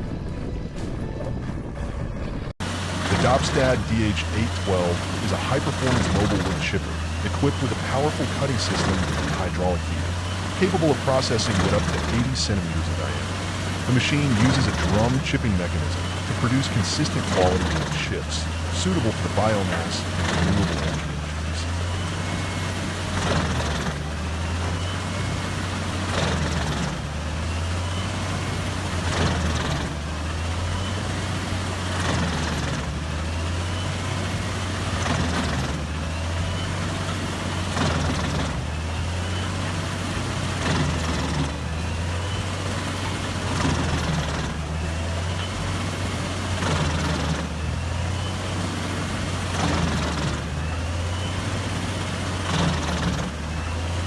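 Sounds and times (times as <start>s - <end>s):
wood chipper engine drone: 0.0s - 54.0s
wood rushing through chipper: 0.0s - 54.0s.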